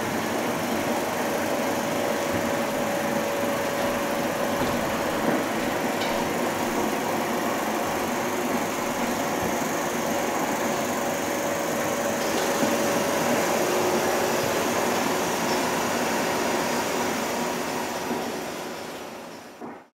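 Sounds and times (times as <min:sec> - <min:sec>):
film projectors running: 0:00.0 - 0:19.8.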